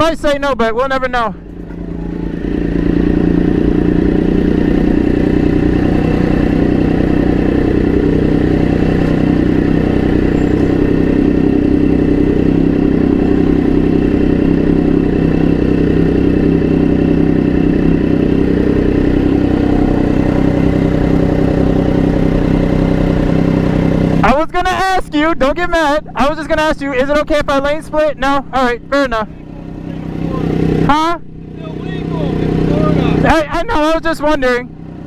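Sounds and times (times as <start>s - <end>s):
motorcycle engine running steadily: 0.0s - 35.0s.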